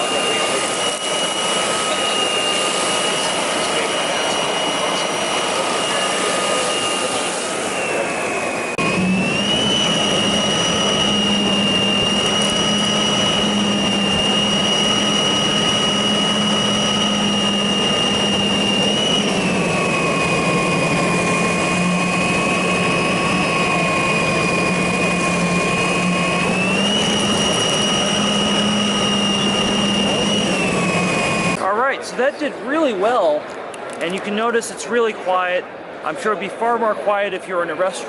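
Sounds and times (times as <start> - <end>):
vacuum sweeper motor whine: 0.0 - 31.8.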